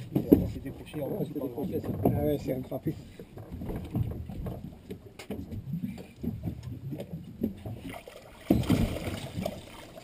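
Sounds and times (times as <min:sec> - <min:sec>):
water sloshing against boat hull: 0:00.0 - 0:10.0.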